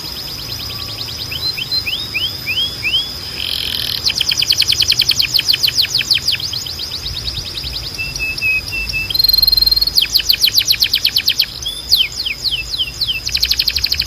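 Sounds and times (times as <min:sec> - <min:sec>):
canary singing trills: 0:00.0 - 0:14.0.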